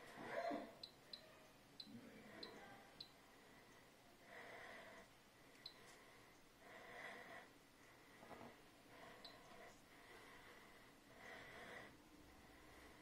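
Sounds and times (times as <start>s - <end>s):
soft breaths: 0.0s - 13.0s.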